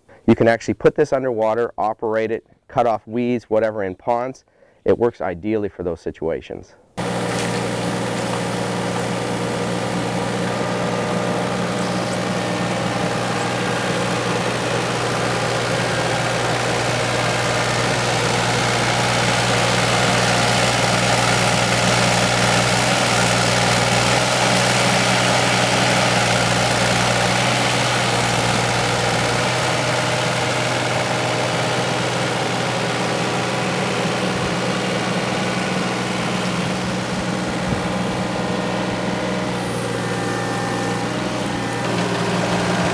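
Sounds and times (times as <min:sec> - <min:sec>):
heavy equipment engine running: 0:07.0 - 0:42.9.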